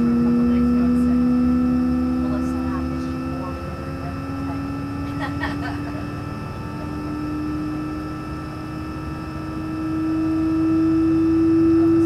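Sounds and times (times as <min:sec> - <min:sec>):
jet engine spooling up: 0:00.0 - 0:12.0
low rumble: 0:00.0 - 0:12.0.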